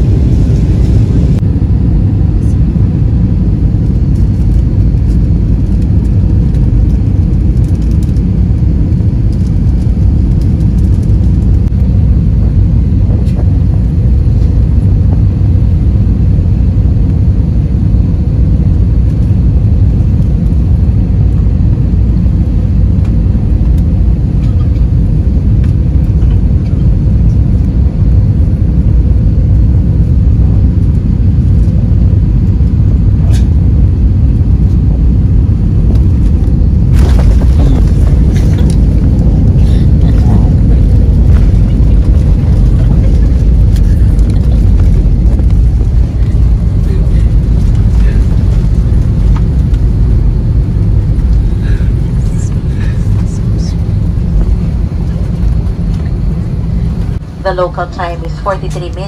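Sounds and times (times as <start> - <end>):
rushing air: 0.0 - 26.0, 28.0 - 57.5
jet engines rumbling: 0.0 - 59.0.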